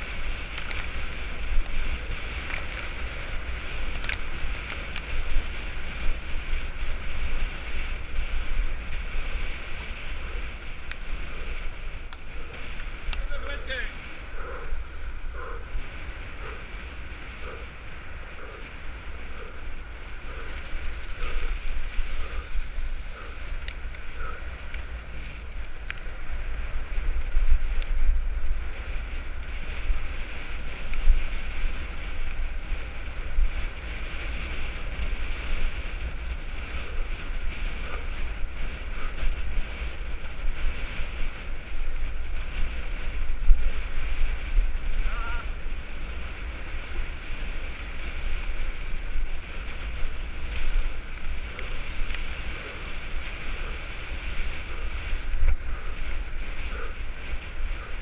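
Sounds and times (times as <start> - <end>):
bike tyres rushing: 0.0 - 58.0
wind buffeting microphone: 0.0 - 58.0.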